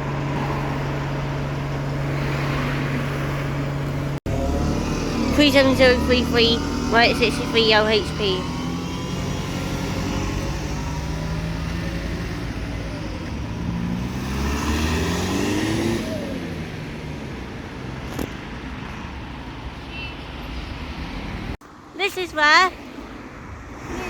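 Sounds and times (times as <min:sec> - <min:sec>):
diesel bus engine accelerating: 0:00.0 - 0:19.8
traffic noise: 0:00.0 - 0:24.0.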